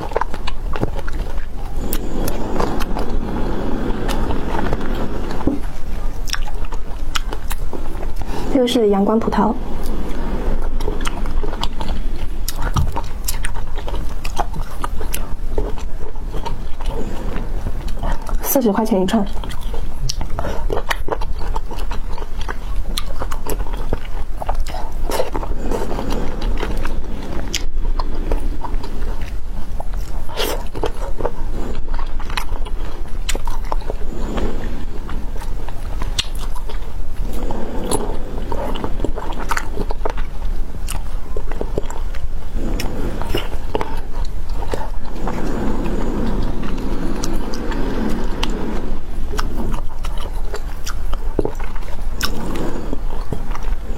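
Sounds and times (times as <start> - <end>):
chewing: 0.0 - 53.9.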